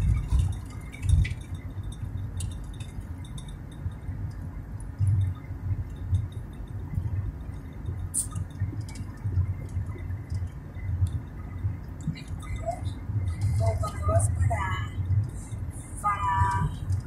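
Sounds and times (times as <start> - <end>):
small clicks and rattles: 0.0 - 15.6, 16.4 - 17.0
car driving rumble from inside: 0.0 - 17.0.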